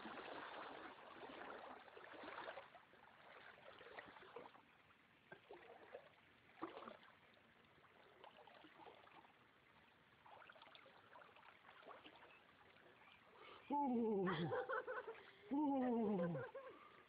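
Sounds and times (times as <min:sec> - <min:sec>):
river water splashing and trickling: 0:00.0 - 0:16.2.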